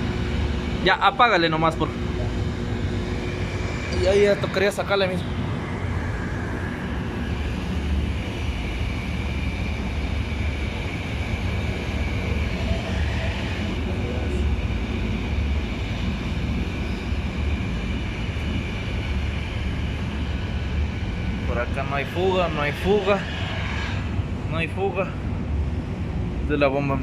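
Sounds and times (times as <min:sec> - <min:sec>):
motor pump droning: 0:00.0 - 0:25.6.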